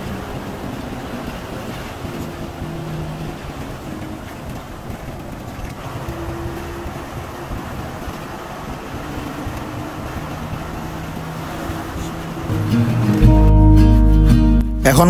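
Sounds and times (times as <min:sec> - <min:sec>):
tyre noise on road: 0:00.0 - 0:13.5
coach engine rumble: 0:00.0 - 0:15.0.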